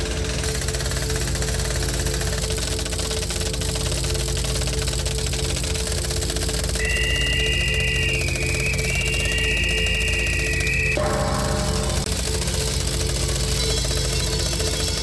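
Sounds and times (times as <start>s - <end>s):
droning hum of held tones: 0.0s - 15.0s
fast even rattle: 0.0s - 15.0s.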